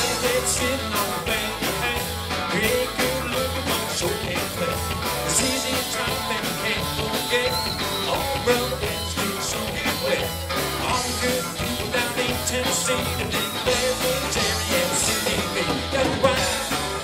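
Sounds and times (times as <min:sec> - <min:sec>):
bass guitar: 0:00.0 - 0:17.0
drum kit beat: 0:00.0 - 0:17.0
electric guitars: 0:00.0 - 0:17.0.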